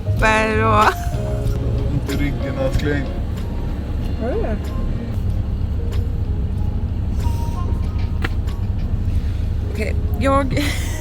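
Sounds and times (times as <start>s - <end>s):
vehicle engine rumble inside cabin: 0.0s - 11.0s.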